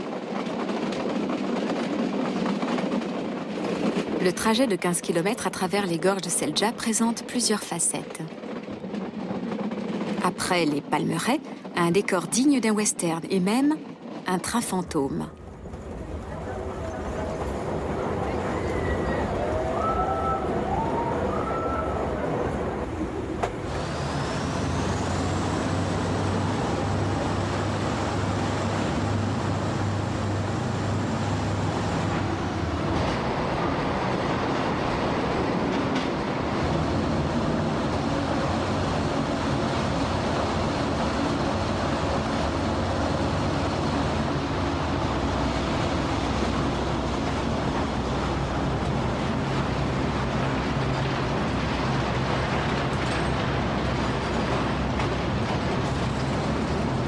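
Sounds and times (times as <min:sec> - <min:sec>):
train carriages rumbling on track: 0:00.0 - 0:57.0.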